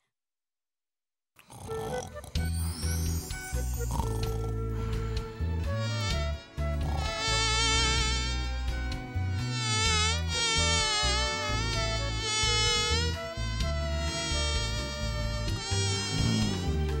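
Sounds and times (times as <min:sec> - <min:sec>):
cartoon bee buzzing: 0:01.4 - 0:17.0
low bass line: 0:02.4 - 0:17.0.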